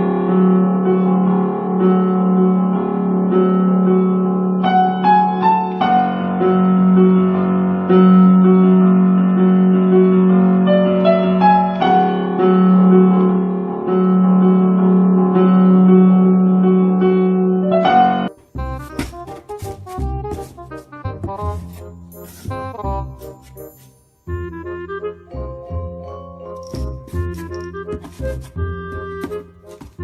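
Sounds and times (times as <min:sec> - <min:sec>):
piano-like keyboard tune: 0:00.0 - 0:30.0.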